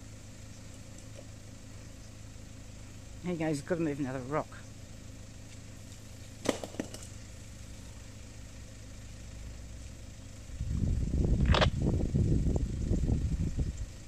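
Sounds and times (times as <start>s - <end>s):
engine idling: 0.0s - 14.0s
loud uneven low rumble: 0.0s - 14.0s.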